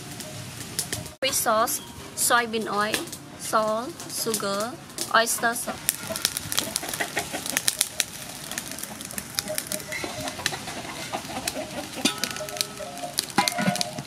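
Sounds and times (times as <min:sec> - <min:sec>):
chickens clucking: 0:01.0 - 0:14.0.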